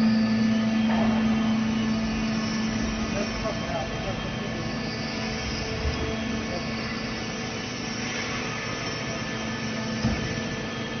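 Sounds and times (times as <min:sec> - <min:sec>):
baling press motor humming: 0:00.0 - 0:11.0.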